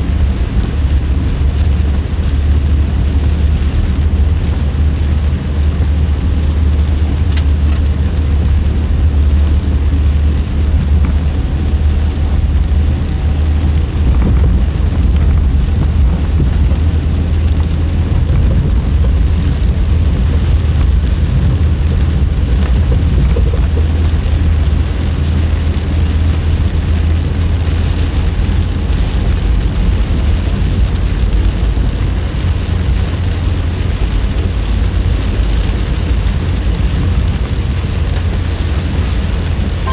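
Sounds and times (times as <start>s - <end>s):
car tyres and engine drone: 0.0s - 39.9s.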